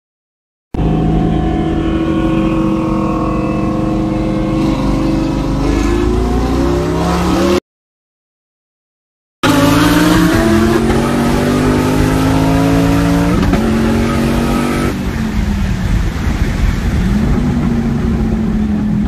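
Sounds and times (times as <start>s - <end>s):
car engine accelerating: 0.8s - 7.6s, 9.4s - 19.0s.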